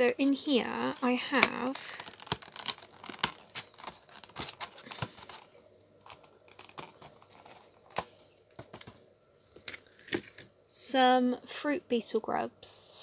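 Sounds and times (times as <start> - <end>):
plastic tub crinkling: 0.0 - 10.4.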